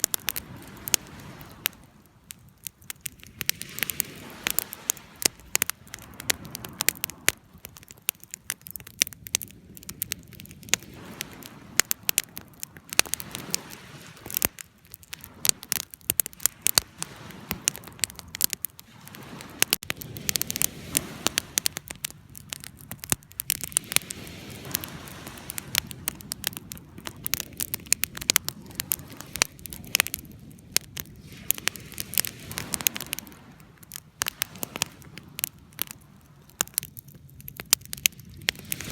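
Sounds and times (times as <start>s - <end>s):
low rush of flames: 0.0s - 38.9s
wood fire crackling and popping: 0.0s - 38.9s.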